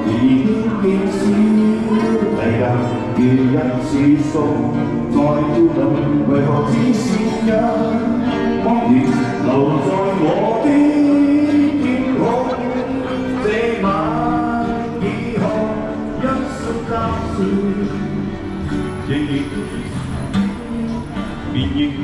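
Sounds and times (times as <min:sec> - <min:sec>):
person singing: 0:00.0 - 0:22.0.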